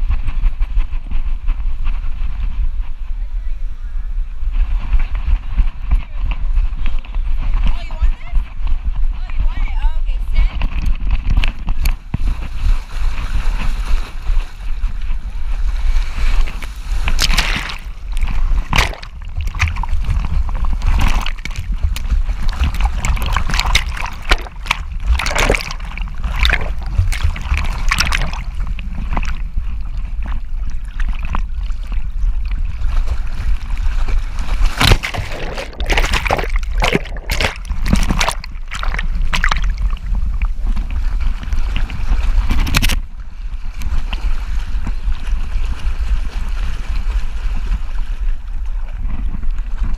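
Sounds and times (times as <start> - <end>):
wind rumble on microphone: 0.0 - 49.9
seawater splashing: 4.5 - 49.9.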